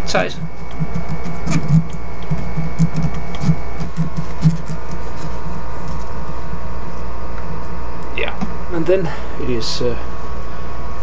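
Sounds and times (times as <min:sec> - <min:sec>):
mechanical hum with whining tones: 0:00.0 - 0:11.0.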